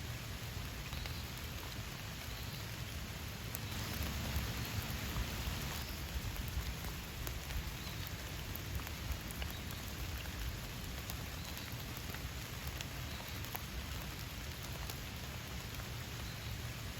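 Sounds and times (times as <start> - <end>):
steady rain falling: 0.0 - 16.9.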